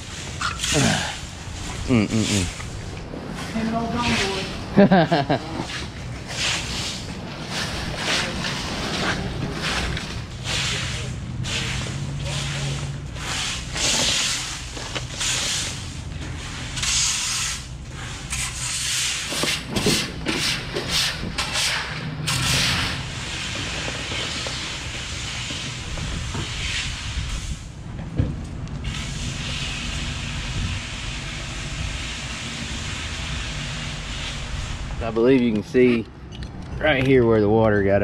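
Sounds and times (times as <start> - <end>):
broom sweeping wet leaves on concrete: 0.0 - 27.8, 28.8 - 35.2.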